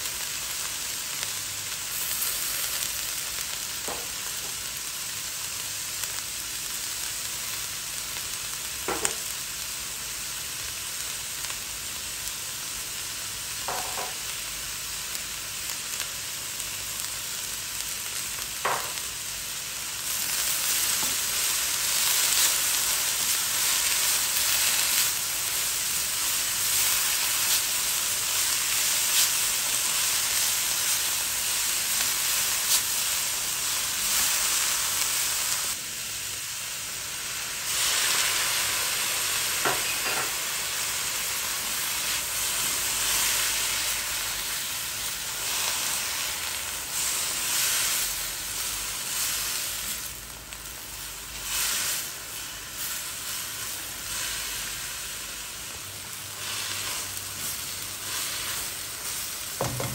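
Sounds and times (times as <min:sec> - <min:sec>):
vegetables sizzling in wok: 0:00.0 - 0:59.9.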